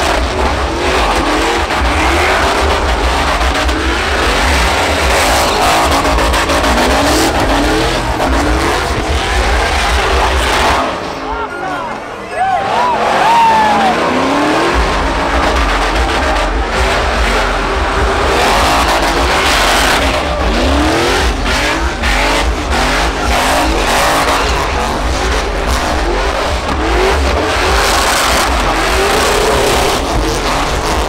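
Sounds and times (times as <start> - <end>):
tires squealing on pavement: 0.0 - 31.0
truck engine revving hard: 0.0 - 31.0.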